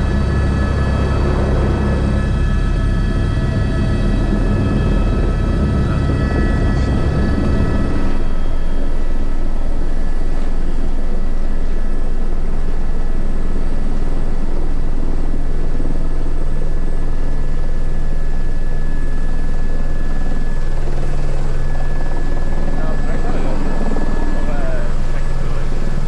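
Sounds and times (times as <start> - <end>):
helicopter rotor beat: 0.0 - 26.0
turbine whine: 0.0 - 26.0.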